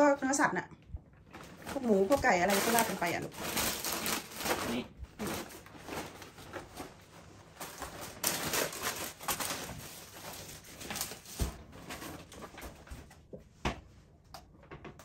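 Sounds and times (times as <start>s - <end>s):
packages crinkling and tapping: 1.1s - 15.0s
plastic bag rustling: 1.2s - 13.2s.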